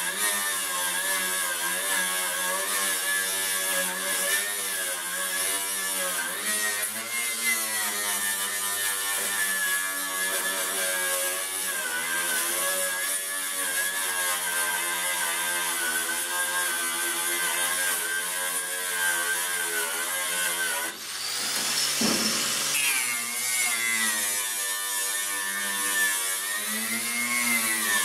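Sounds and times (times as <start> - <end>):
angle grinder wire brush on steel: 0.2 - 28.0.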